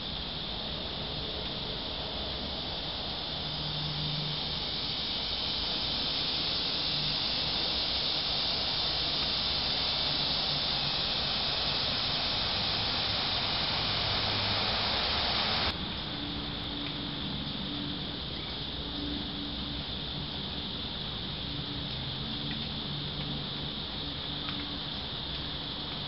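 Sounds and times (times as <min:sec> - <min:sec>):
broad background noise: 0:00.0 - 0:26.0
insect chorus drone: 0:00.0 - 0:26.0.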